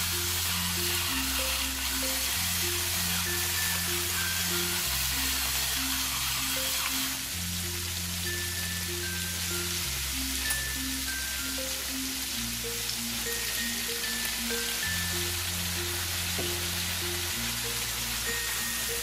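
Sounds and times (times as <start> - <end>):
food sizzling in a frying pan: 0.0 - 19.0
light background music: 0.0 - 19.0.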